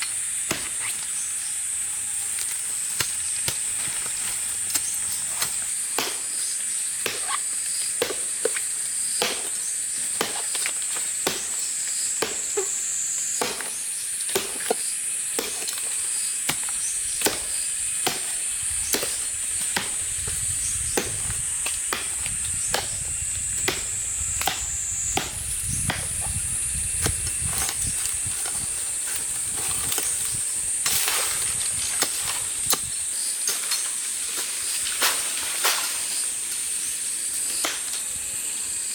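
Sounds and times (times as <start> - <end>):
high-pitched insect drone: 0.0 - 38.9
blade chopping blows: 0.4 - 1.1, 2.9 - 33.8.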